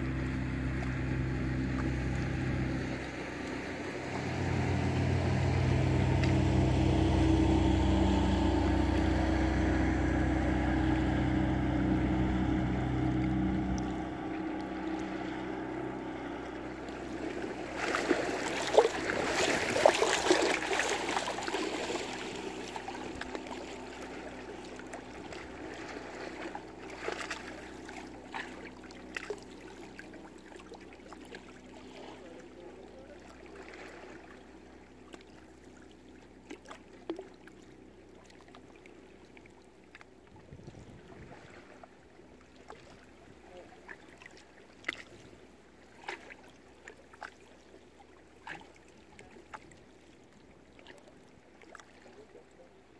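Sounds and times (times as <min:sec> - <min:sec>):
water splashing and slapping: 0:00.0 - 0:52.5
motorboat engine hum: 0:00.0 - 0:52.9
water lapping and trickling: 0:00.0 - 0:52.9.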